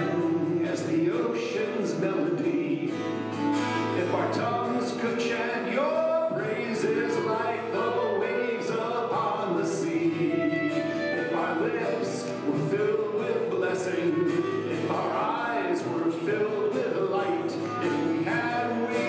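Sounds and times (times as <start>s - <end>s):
acoustic guitar strumming: 0.0s - 19.0s
congregation singing along: 0.0s - 19.0s
man singing: 0.0s - 19.0s.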